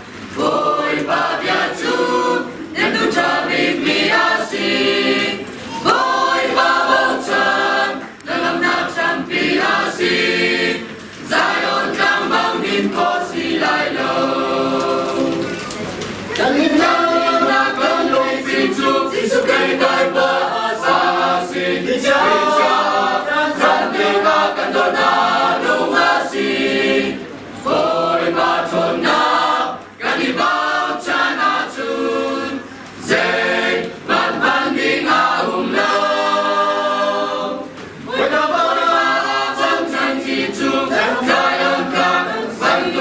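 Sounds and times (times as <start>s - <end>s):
choir singing a hymn: 0.0s - 15.6s, 16.3s - 43.0s.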